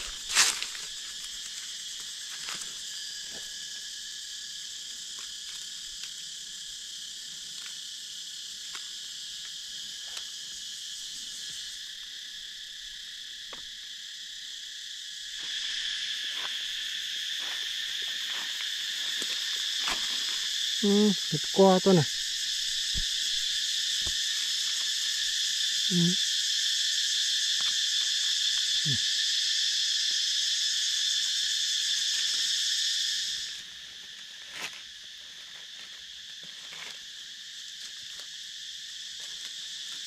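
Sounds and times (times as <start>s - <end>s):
high insect buzz: 0.0s - 40.0s
insects buzzing: 0.0s - 40.0s.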